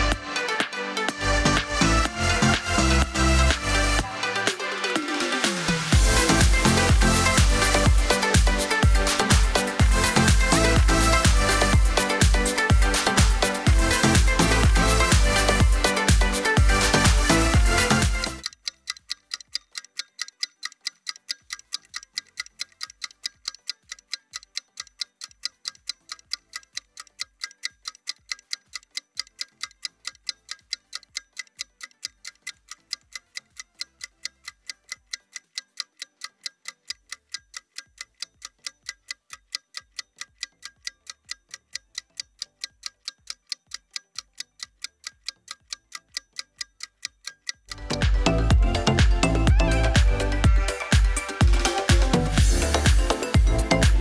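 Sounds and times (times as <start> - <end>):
rapid clock ticking: 0.0 - 54.0.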